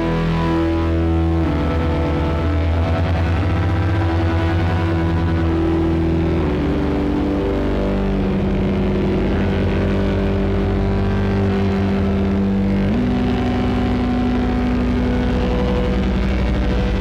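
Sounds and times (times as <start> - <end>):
dense low rumble: 0.0 - 17.0
distorted synthesizer drone: 0.0 - 17.0.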